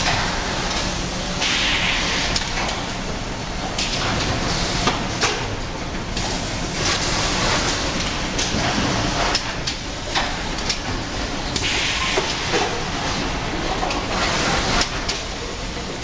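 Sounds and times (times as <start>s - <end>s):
packing machinery running: 0.0s - 16.0s.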